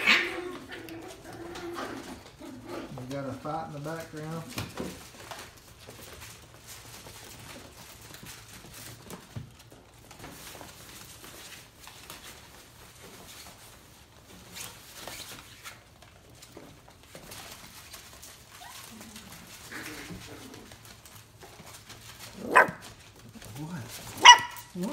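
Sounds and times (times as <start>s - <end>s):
puppy paws scrabbling on hard floor: 0.0s - 24.9s.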